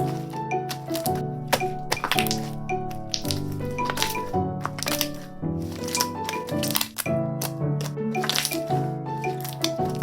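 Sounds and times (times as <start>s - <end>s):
background music melody: 0.0s - 10.0s.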